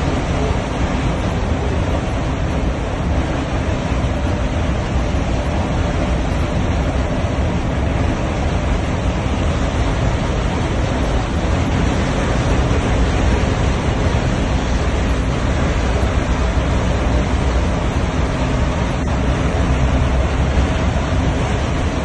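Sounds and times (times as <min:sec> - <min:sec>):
tyre and engine rumble: 0:00.0 - 0:22.0.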